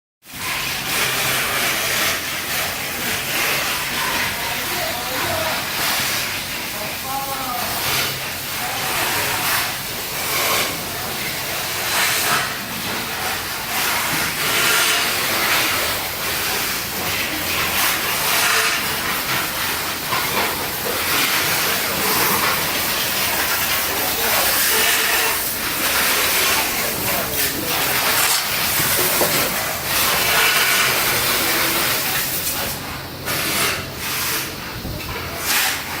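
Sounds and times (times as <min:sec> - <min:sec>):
loud steady hissing: 0:00.3 - 0:36.0.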